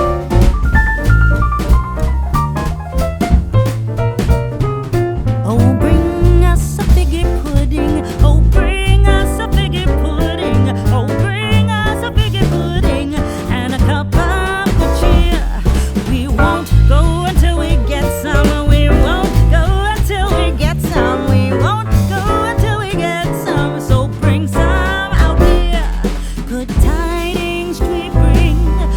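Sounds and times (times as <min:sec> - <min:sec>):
upbeat song with singing: 0:05.4 - 0:28.9.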